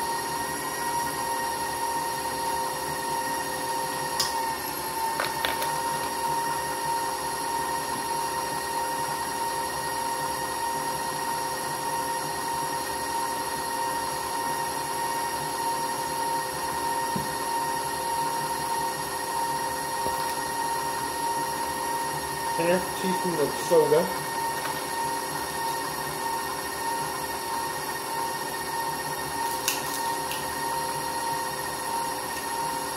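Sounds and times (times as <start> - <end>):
stand mixer motor whine: 0.0 - 32.9.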